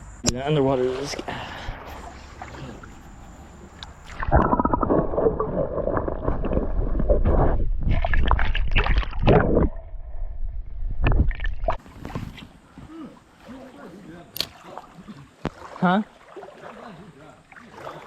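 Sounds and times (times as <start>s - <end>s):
water sloshing and gurgling: 0.6s - 18.0s.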